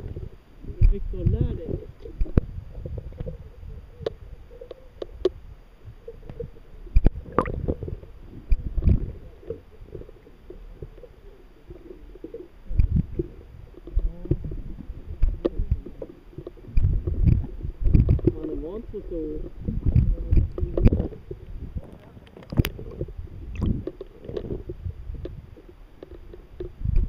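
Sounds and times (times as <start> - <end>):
muffled underwater rumble and gurgle: 0.0 - 27.0.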